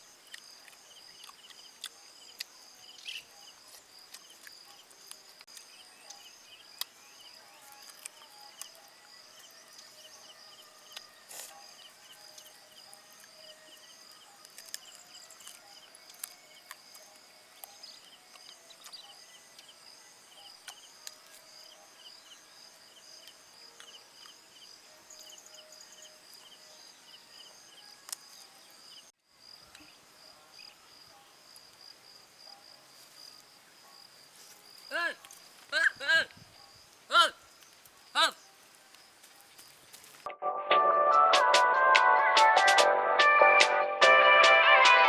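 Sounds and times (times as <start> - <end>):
insect chirps: 0.0 - 40.3.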